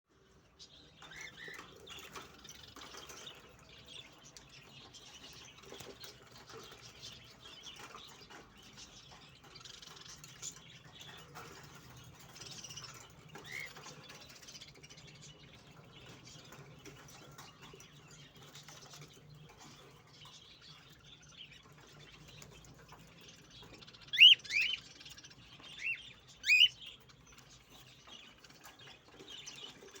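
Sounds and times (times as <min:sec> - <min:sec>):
cockatiels chirping softly: 0:00.6 - 0:03.4, 0:04.0 - 0:30.0.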